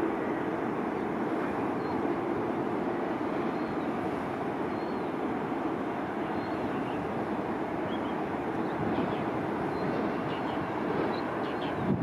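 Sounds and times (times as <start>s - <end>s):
jet engines droning: 0.0s - 12.0s.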